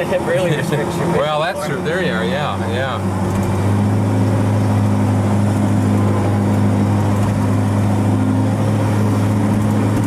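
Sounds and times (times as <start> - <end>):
diesel engine drone: 0.0 - 10.0.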